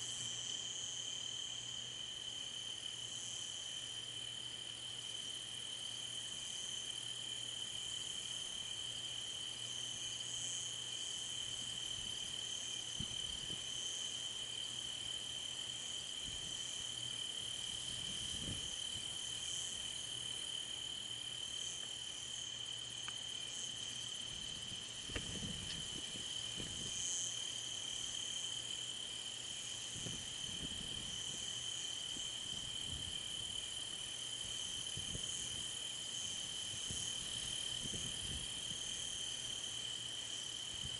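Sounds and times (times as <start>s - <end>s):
crickets trilling: 0.0s - 40.9s
high insect call: 0.0s - 40.9s.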